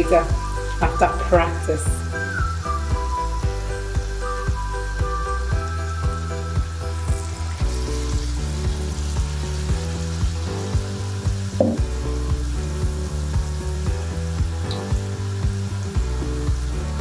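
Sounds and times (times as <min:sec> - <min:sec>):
background music with steady beat: 0:00.0 - 0:17.0
dough sizzling in hot oil: 0:00.1 - 0:17.0.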